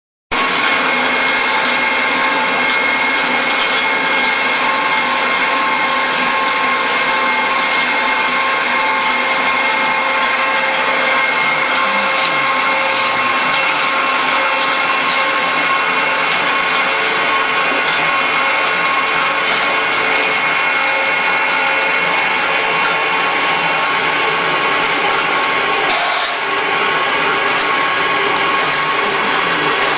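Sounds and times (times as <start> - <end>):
machine whirring with high whine: 0.4 - 29.9.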